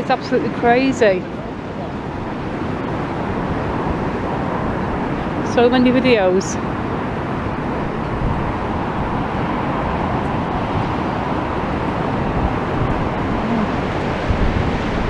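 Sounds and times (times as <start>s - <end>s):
rough surf: 0.0s - 15.0s
wind: 0.0s - 15.0s
wind buffeting microphone: 0.0s - 15.0s.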